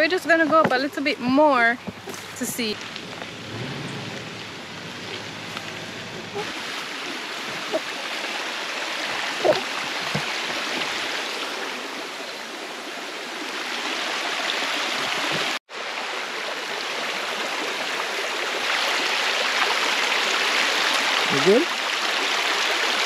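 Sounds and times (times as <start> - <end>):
stream running over rocks: 0.0 - 23.0.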